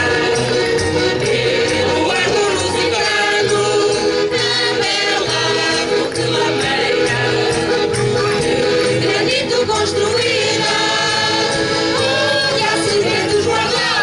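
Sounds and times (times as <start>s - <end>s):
mixed choir singing: 0.0s - 14.0s.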